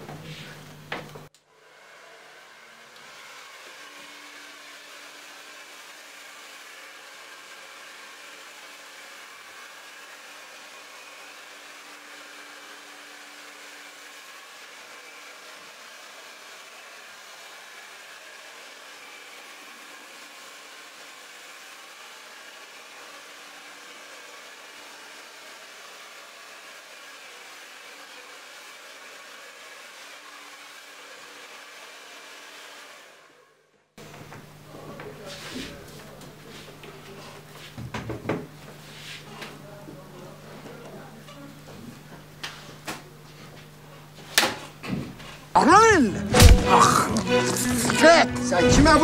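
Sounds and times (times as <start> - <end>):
hair dryer blowing: 0.1 - 35.3, 44.4 - 49.0.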